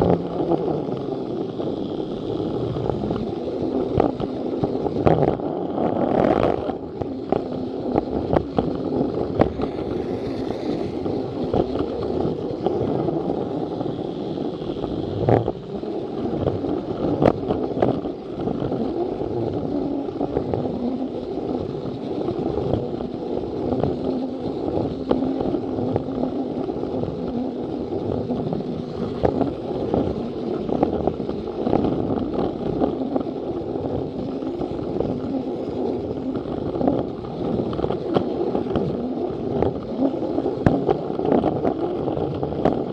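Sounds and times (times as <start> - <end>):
toy train motor whir: 0.0 - 42.9
wheels clicking over track joints: 0.0 - 42.9.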